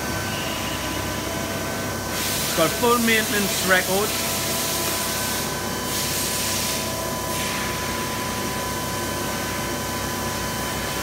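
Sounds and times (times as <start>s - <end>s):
machining centre whine: 0.0s - 11.0s.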